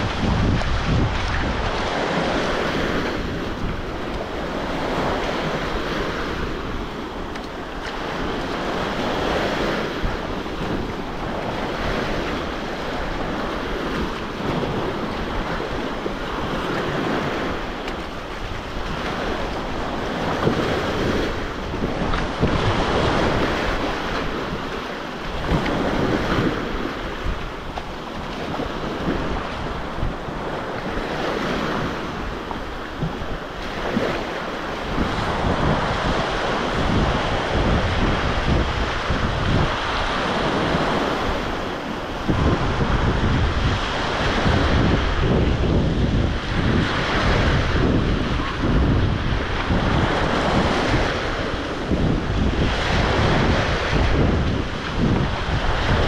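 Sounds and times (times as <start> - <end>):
waves breaking: 0.0 - 56.0
wind rumbling on microphone: 0.0 - 56.0.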